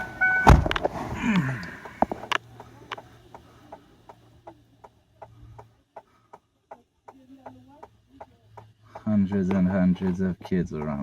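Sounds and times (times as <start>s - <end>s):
car indicator clicking: 1.8s - 11.0s.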